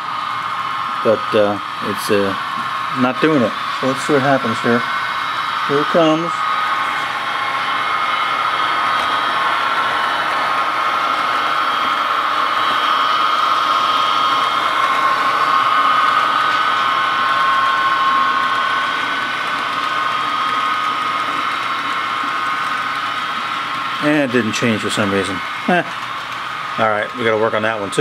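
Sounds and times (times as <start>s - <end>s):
model locomotive motor whine: 0.0s - 28.0s
wheels on rails: 3.4s - 28.0s.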